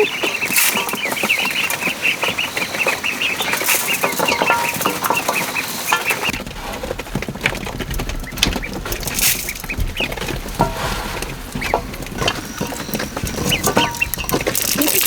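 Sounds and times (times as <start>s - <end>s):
chicks peeping: 0.0s - 15.0s
knocks and rustles: 0.3s - 15.0s.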